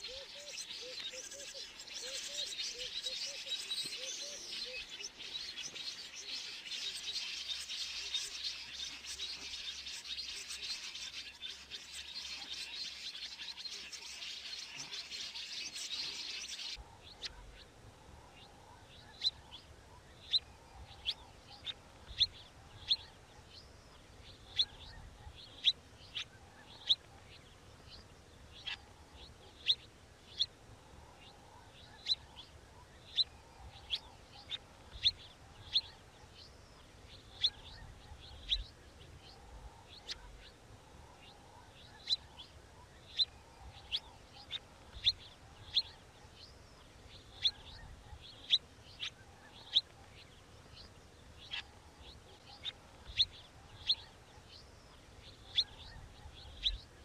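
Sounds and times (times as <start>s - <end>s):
dense chatter of birds: 0.0s - 57.0s.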